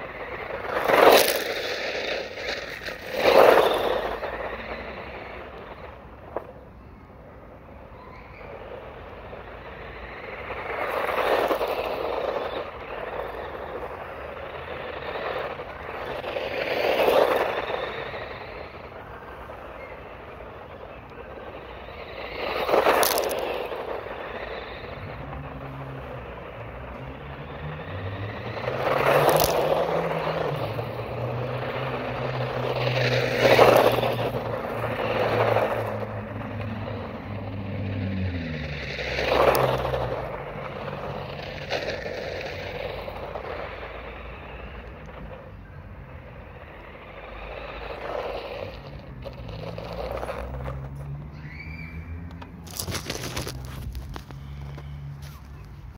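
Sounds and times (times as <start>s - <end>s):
rc car tyres spraying gravel: 0.0s - 55.9s.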